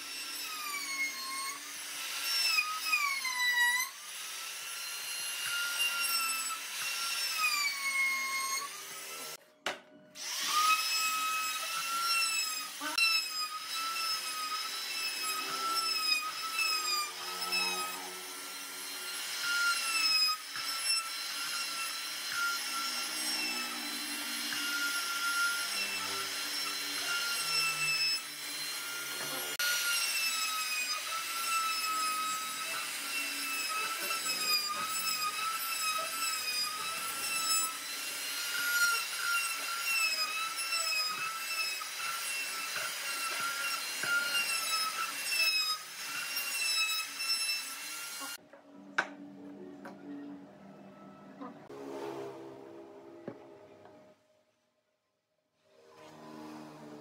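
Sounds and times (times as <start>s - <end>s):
router cutting wood: 0.0s - 9.4s, 10.2s - 50.3s, 55.7s - 57.0s.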